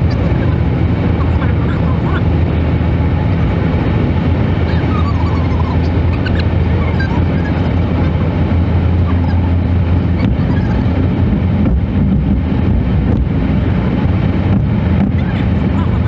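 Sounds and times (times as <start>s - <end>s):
vehicle driving on highway: 0.0s - 16.0s.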